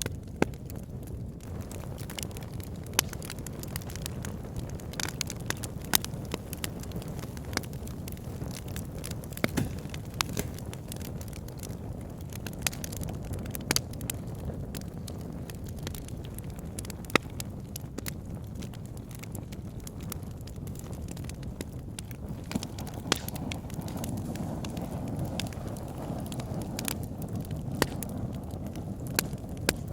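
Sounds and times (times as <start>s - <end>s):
burning logs popping and snapping: 0.0s - 29.9s
low rumble of flames: 0.0s - 29.9s.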